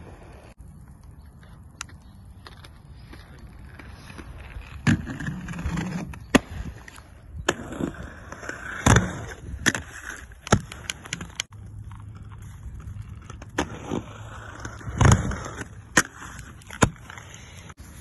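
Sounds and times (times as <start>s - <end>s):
inline skates rolling on concrete: 0.0s - 18.0s.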